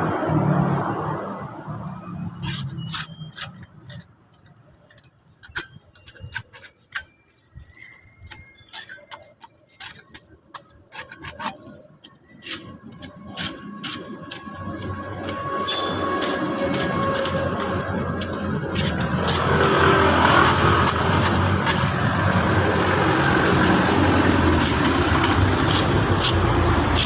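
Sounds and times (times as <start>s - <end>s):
hand tool clicks and scrapes: 2.2s - 27.0s.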